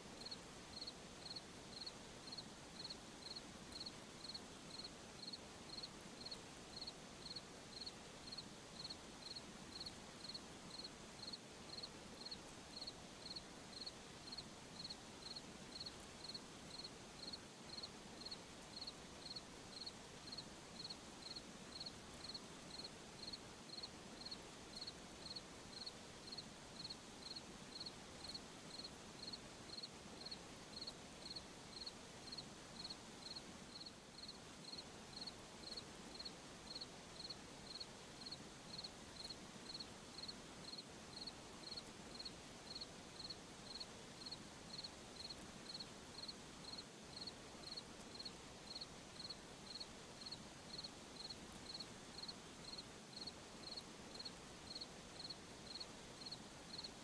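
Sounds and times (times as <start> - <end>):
low background hiss: 0.0 - 57.0
cricket chirping: 0.2 - 56.9.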